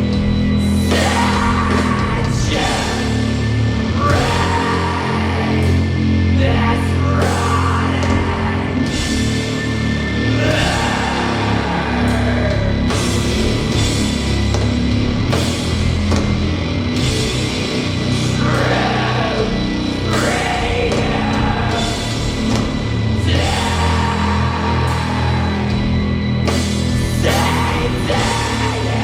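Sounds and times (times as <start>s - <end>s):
harsh vocals: 0.0s - 29.0s
metal band playing live: 0.0s - 29.0s.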